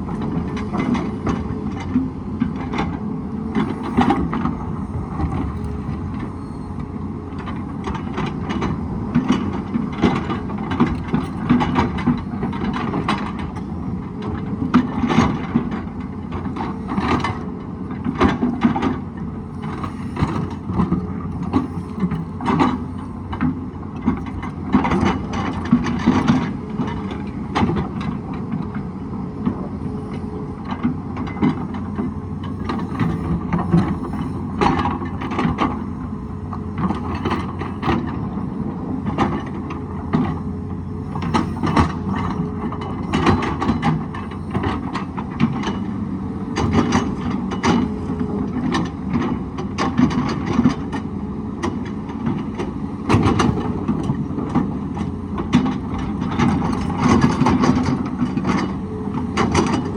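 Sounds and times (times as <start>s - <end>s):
hydraulic excavator running: 0.0s - 59.9s.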